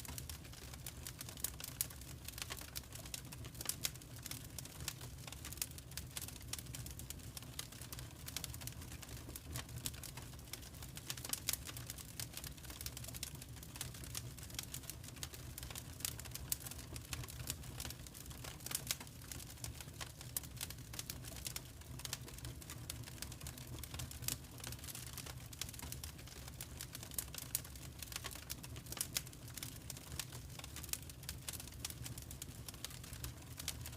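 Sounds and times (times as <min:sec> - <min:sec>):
fire crackling: 0:00.0 - 0:33.9.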